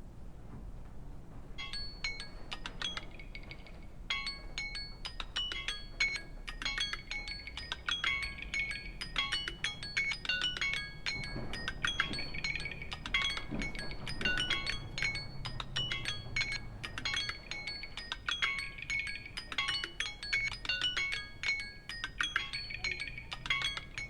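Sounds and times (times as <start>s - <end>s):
phone ringtone chiming notes: 1.6s - 24.0s.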